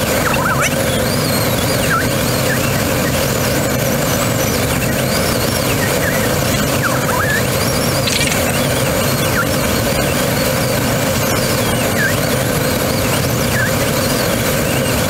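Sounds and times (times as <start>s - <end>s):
glider cockpit flight noise: 0.0s - 15.0s
thin wavering whistles: 0.0s - 15.0s.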